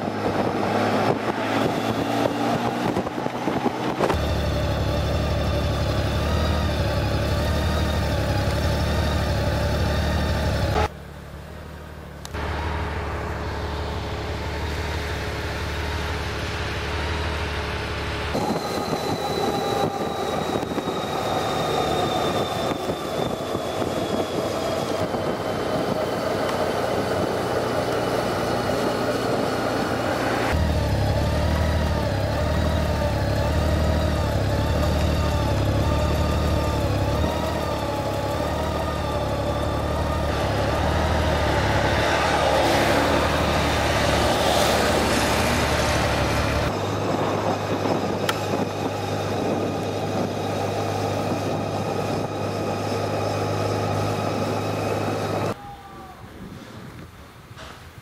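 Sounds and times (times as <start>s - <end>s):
motorcycle engine running: 0.0s - 55.6s
road and wind noise: 0.0s - 58.0s.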